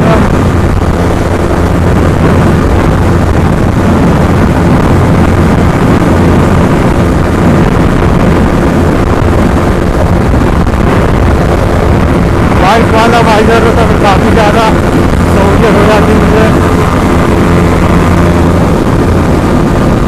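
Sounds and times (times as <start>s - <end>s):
motorcycle engine at high speed: 0.0s - 20.0s
wind rushing on microphone: 0.0s - 20.0s.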